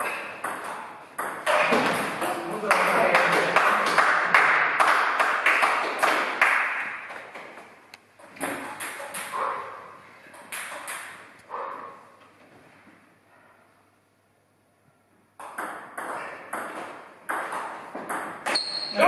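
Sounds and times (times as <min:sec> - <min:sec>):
table tennis balls bouncing: 0:00.0 - 0:11.8, 0:15.3 - 0:19.0.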